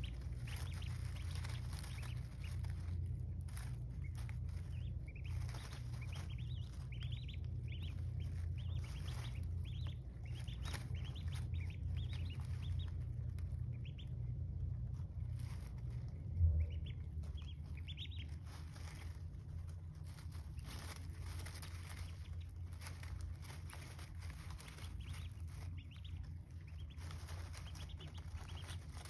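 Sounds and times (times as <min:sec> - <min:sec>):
ducklings peeping: 0:00.0 - 0:29.0
steady low hum: 0:00.0 - 0:29.0.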